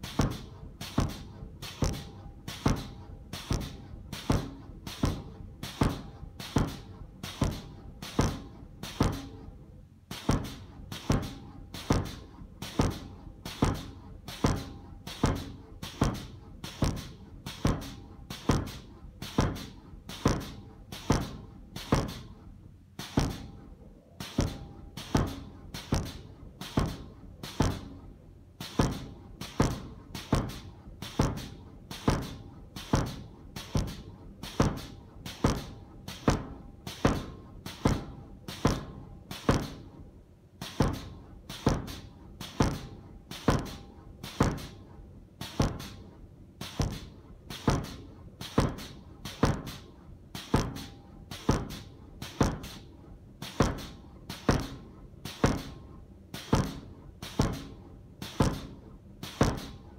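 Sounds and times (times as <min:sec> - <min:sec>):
air hammer striking hot steel: 0:00.0 - 0:39.9, 0:40.6 - 0:59.9.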